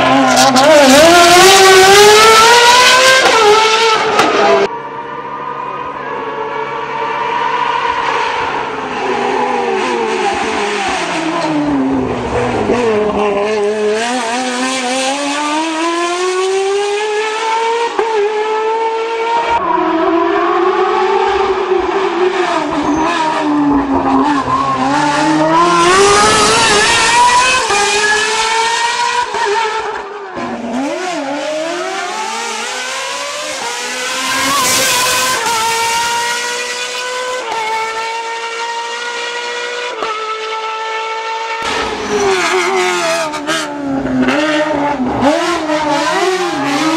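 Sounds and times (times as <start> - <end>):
racing car engine at full throttle: 0.0 - 46.9.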